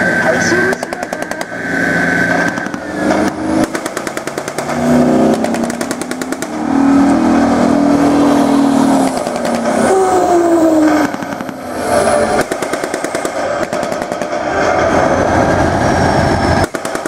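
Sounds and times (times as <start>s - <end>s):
rapid bursts of sharp reports: 0.0s - 14.4s
tracked vehicles driving past: 0.0s - 17.0s.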